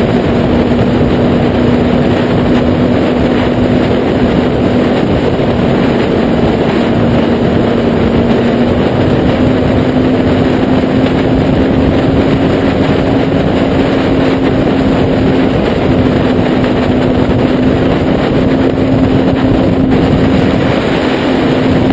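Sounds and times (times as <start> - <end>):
motorcycle engine running: 0.0 - 21.9
wind rush on microphone: 0.0 - 21.9.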